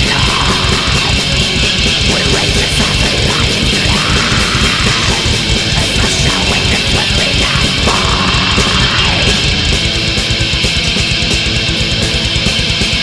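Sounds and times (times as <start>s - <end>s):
distorted electric guitars: 0.0s - 13.0s
fast dense drumming: 0.0s - 13.0s.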